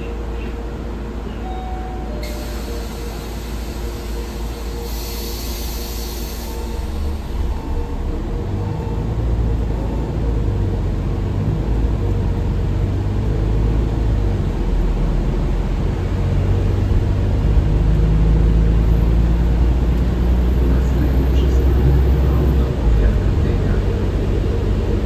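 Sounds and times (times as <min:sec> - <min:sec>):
bus engine drone: 0:00.0 - 0:25.0
road rumble: 0:00.0 - 0:25.0.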